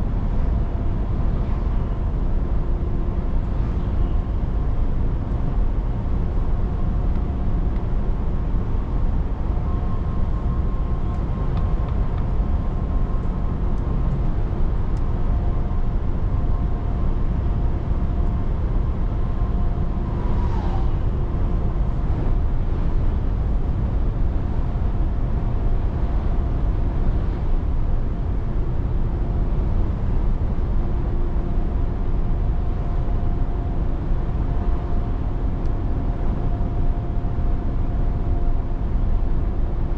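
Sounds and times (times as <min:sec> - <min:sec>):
truck engine and road rumble: 0:00.0 - 0:39.9
faint steady whine: 0:01.3 - 0:39.9.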